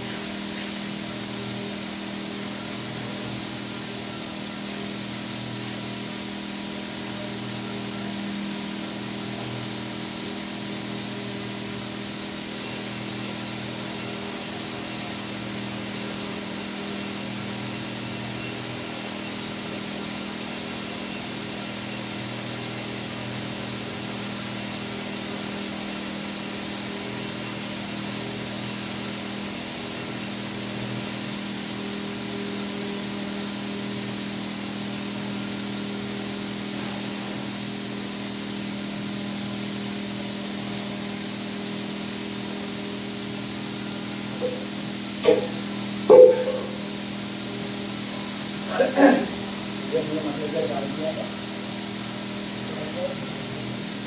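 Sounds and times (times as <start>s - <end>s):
hiss: 0.0s - 46.0s
machine humming drone: 0.0s - 54.0s.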